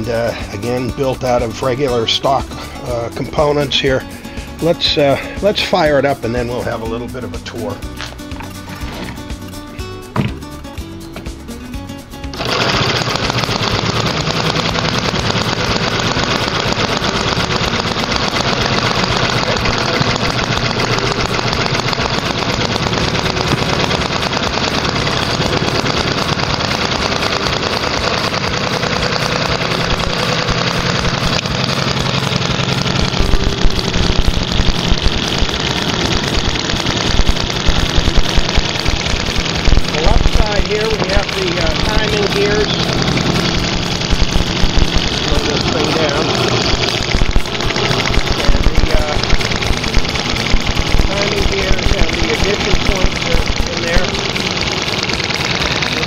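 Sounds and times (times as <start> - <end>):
model engine running: 0.0 - 9.6, 12.0 - 56.0.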